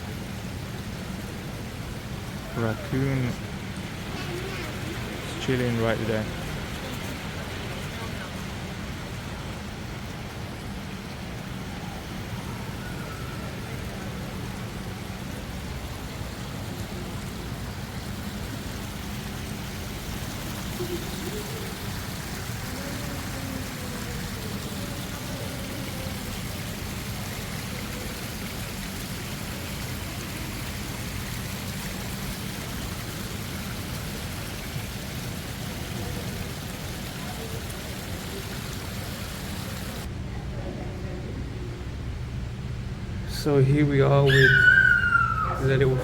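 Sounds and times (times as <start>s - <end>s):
artificial waterfall rushing: 0.0s - 40.1s, 44.2s - 46.0s.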